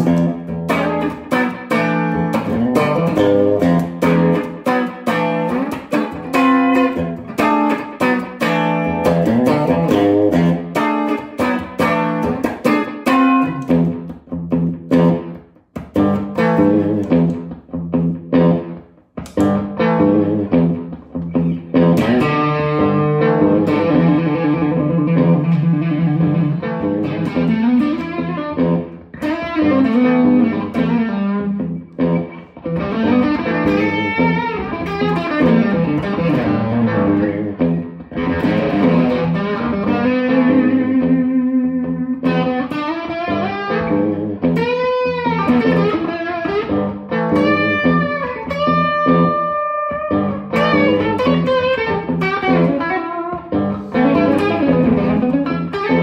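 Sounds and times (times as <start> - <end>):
electric guitar solo: 0.0 - 56.0.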